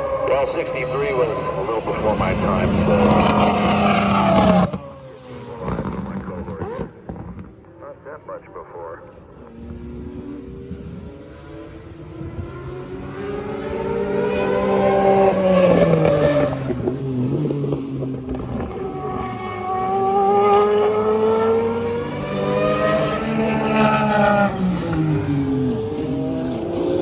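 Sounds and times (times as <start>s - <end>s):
race cars accelerating past: 0.0s - 7.8s, 9.1s - 27.0s.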